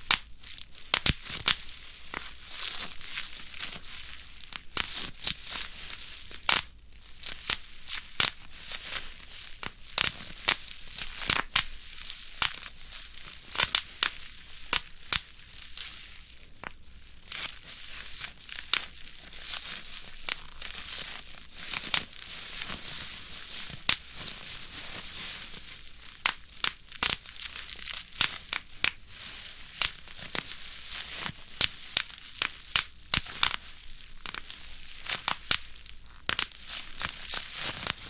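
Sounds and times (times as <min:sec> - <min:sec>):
bubble wrap popping: 0:00.0 - 0:38.0
plastic sheet crinkling: 0:00.0 - 0:38.0.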